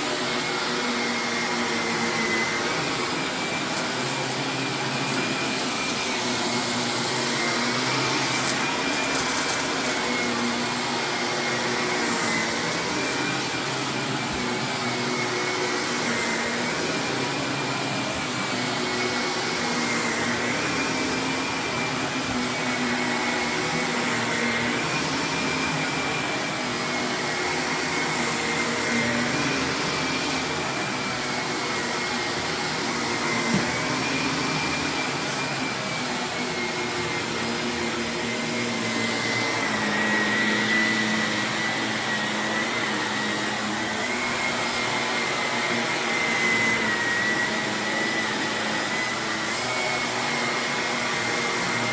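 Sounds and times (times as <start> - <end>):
vacuum cleaner on carpet: 0.0 - 51.9.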